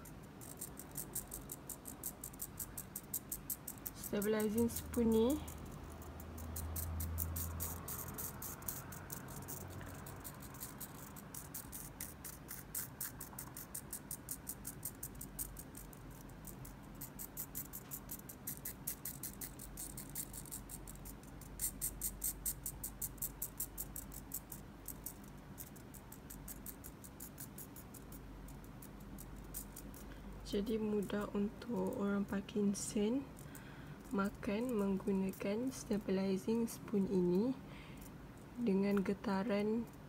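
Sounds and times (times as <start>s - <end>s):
servo motor ticking and buzzing: 0.0s - 36.7s.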